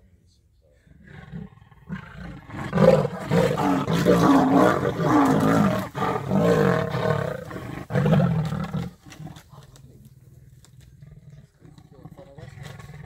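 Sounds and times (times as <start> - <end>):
lions snarling and growling: 1.0 - 13.0.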